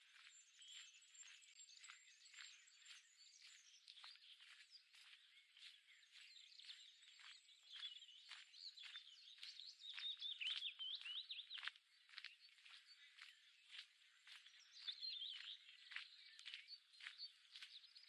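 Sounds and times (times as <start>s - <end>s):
soft footsteps on a path: 0.0s - 18.0s
songbirds singing: 0.0s - 18.0s.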